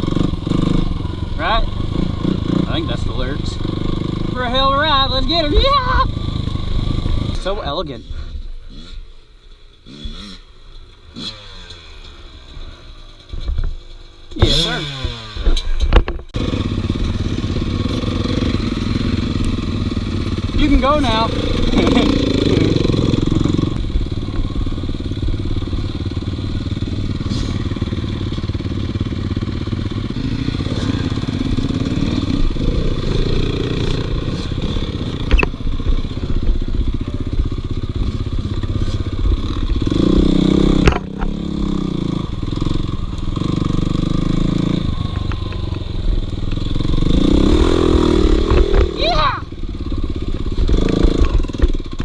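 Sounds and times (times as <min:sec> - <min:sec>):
dirt bike engine revving: 0:00.0 - 0:13.6, 0:14.3 - 0:52.0.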